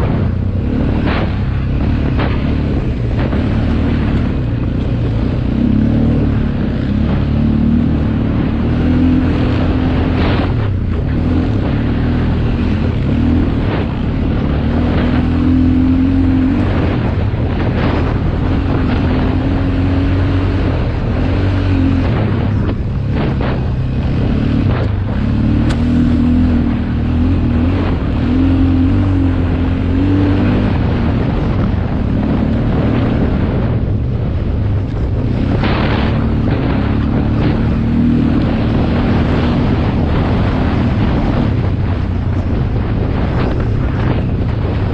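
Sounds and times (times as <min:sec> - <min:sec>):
motorcycle engine revving: 0:00.0 - 0:44.9
wind buffeting microphone: 0:00.0 - 0:44.9.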